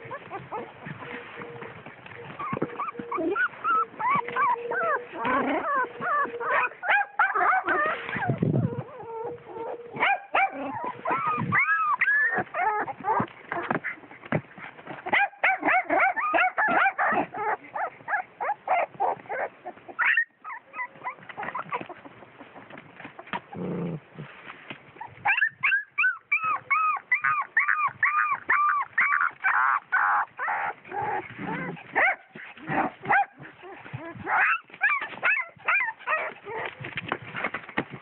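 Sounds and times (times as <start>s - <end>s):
puppies yelping and whimpering: 0.0s - 23.6s, 24.9s - 37.8s.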